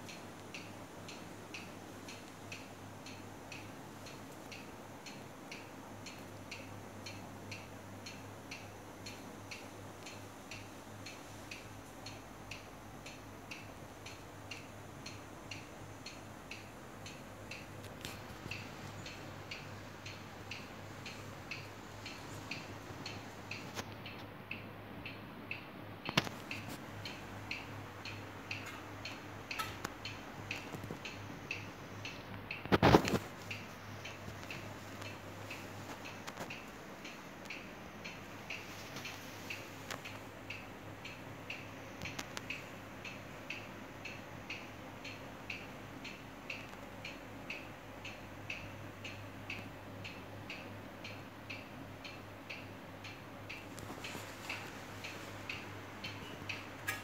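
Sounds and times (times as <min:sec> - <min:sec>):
electric fan motor humming: 0:00.0 - 0:57.0
rapid regular ticking: 0:00.0 - 0:57.0.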